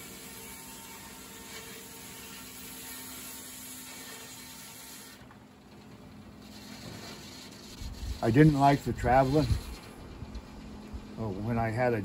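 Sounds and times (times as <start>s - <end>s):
sawmill machinery hum: 0.0s - 12.0s.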